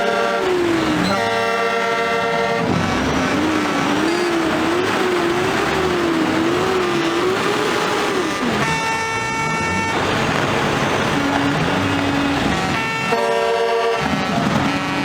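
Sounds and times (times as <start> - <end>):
truck air horn blasts: 0.0 - 5.7, 6.4 - 15.0
wavering siren-like tone: 0.0 - 15.0.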